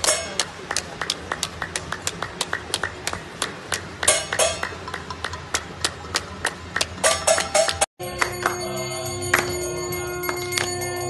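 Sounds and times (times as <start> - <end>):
hands clapping: 0.0 - 9.6, 10.2 - 10.9.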